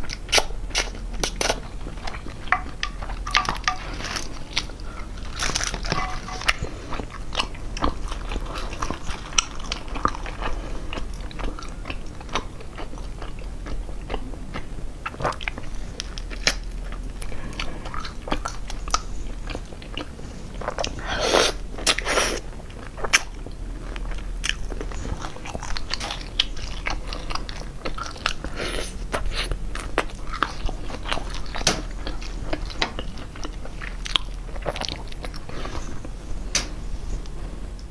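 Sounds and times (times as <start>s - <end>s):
chewing crispy fried food: 0.0s - 36.2s.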